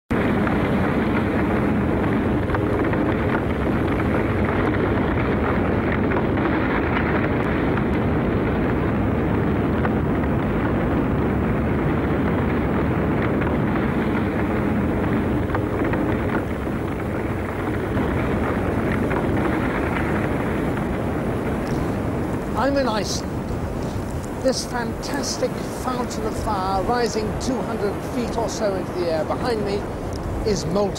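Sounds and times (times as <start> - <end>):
lava fountain rushing: 0.1 - 30.9.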